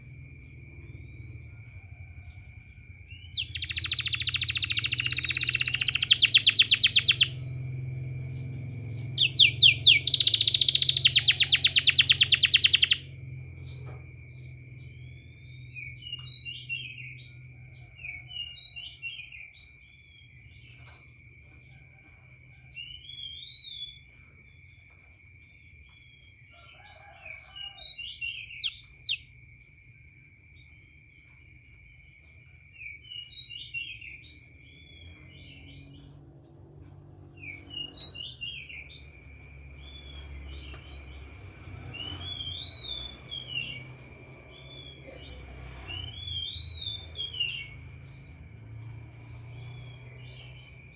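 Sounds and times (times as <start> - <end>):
canary singing trills and chirps: 0.0 - 21.6, 27.7 - 50.9.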